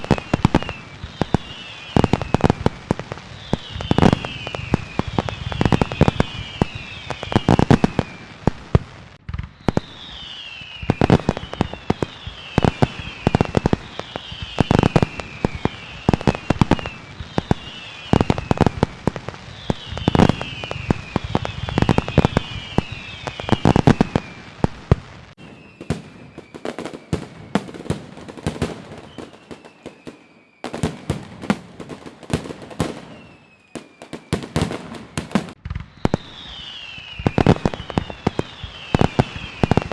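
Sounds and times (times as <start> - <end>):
falling firework whistles: 0.0 - 39.9
fireworks bangs and crackles: 0.0 - 39.9.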